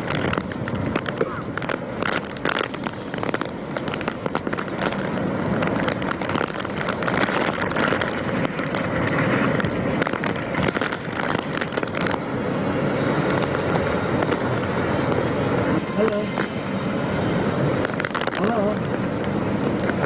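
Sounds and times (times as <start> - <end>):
heavy rain: 0.0 - 20.0
strong wind: 0.0 - 20.0.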